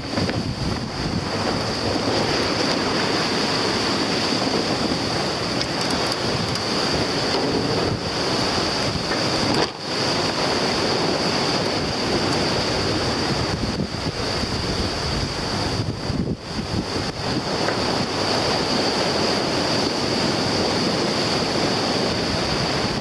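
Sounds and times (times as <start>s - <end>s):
sea water rushing past hull: 0.0s - 23.0s
wind buffeting microphone: 0.0s - 23.0s.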